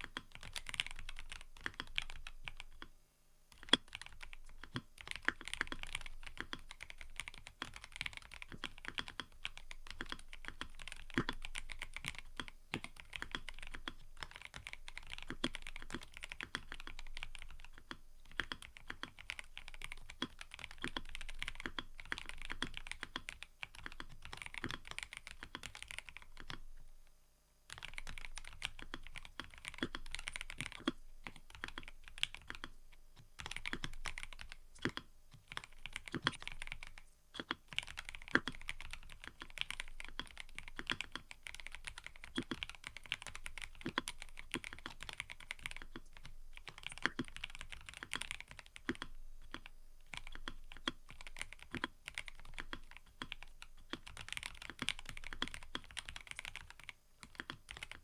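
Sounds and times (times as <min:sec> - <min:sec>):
typing on mechanical keyboard: 0:00.0 - 0:02.9, 0:03.6 - 0:26.6, 0:27.7 - 0:58.0.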